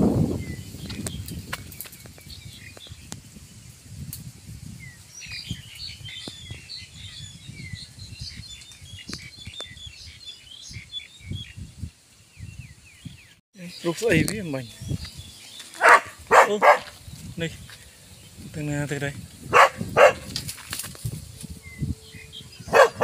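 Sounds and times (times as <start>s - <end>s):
rustling of dry grass: 0.0s - 23.0s
small birds chirping: 0.4s - 3.8s, 4.7s - 23.0s.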